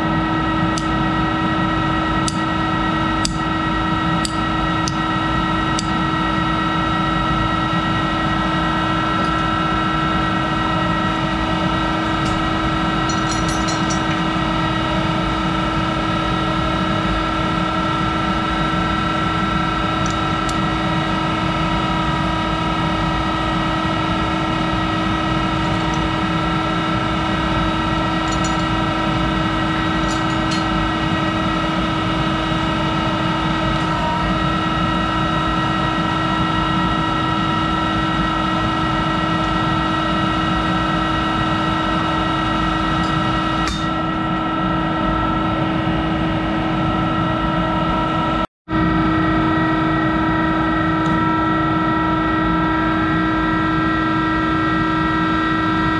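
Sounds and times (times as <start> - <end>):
lathe humming and whining: 0.0 - 55.9.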